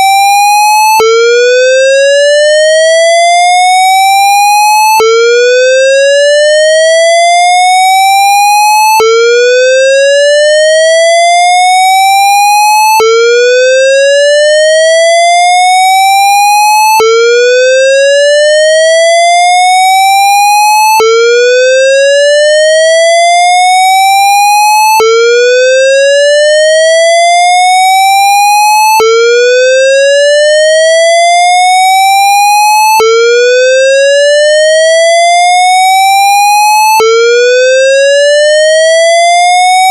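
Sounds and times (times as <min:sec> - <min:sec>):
rising fire alarm whoop tone: 0:00.0 - 0:39.9.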